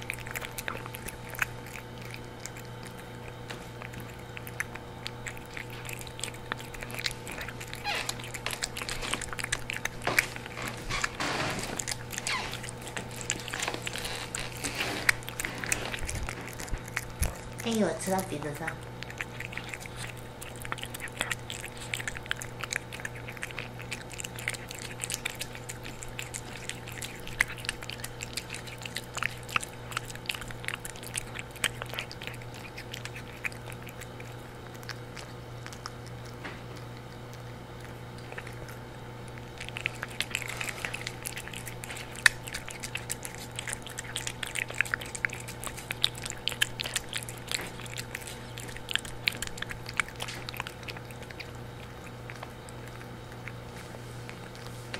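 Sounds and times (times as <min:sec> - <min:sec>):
cat chewing and lapping wet food: 0:00.0 - 0:54.9
steady low hum: 0:00.0 - 0:54.9.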